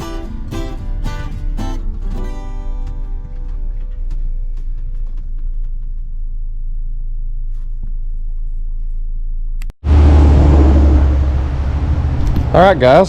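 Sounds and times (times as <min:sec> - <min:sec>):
road rumble inside a car: 0:00.0 - 0:13.0
rushing noise with deep hum: 0:00.2 - 0:13.0.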